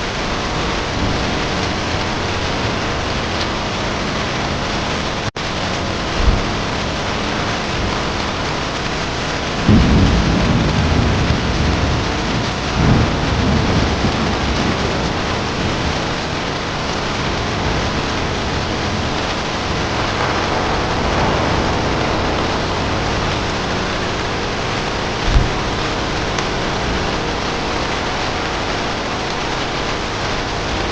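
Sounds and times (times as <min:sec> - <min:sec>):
heavy rain: 0:00.0 - 0:30.9
low roll of thunder: 0:00.0 - 0:30.9.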